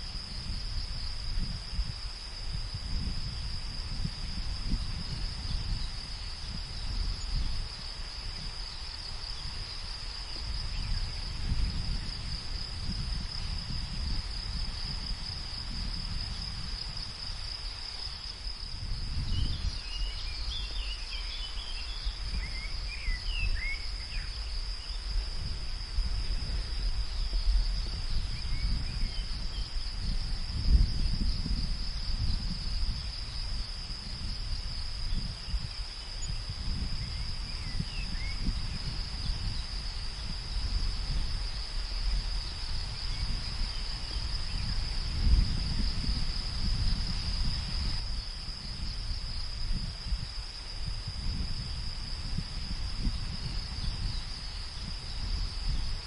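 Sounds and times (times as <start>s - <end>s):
gusty wind rumble: 0.0s - 56.0s
insects trilling: 0.0s - 56.0s.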